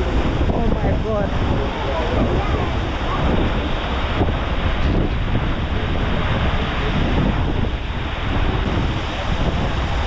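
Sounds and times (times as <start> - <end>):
lake waves rushing: 0.0 - 10.0
wind buffeting microphone: 0.0 - 10.0.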